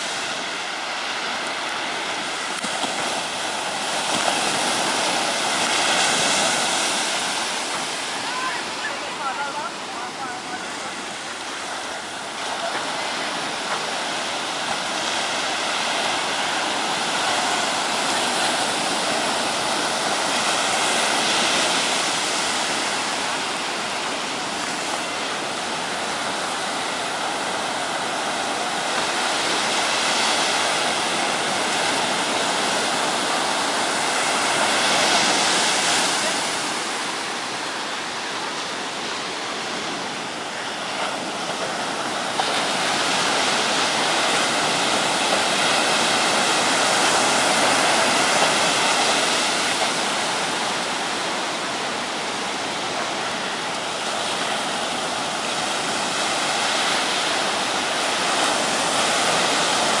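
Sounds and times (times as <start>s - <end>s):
sea surf washing onto beach: 0.0s - 60.0s.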